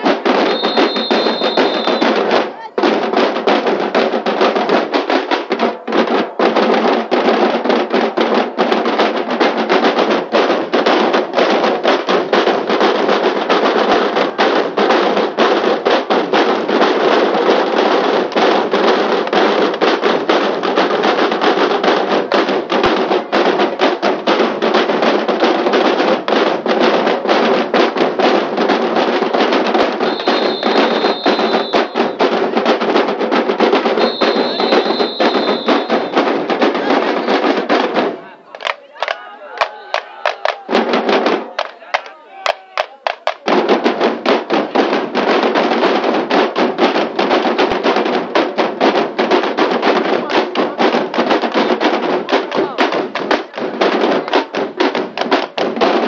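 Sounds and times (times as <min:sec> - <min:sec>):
marching drums playing: 0:00.0 - 0:56.0.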